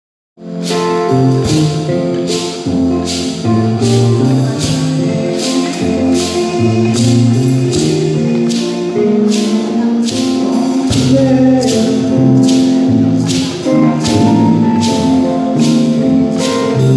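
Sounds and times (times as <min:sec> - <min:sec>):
live band playing: 0:00.4 - 0:16.9
bright percussion accent: 0:00.6 - 0:16.9.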